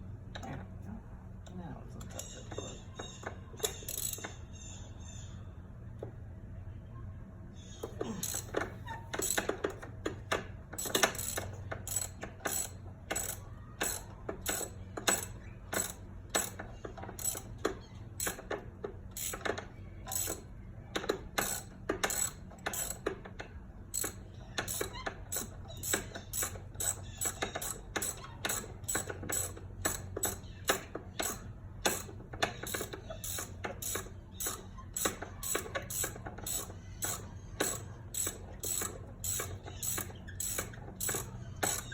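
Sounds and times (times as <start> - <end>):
hand ratchet clicking: 2.0 - 4.4, 7.9 - 41.9.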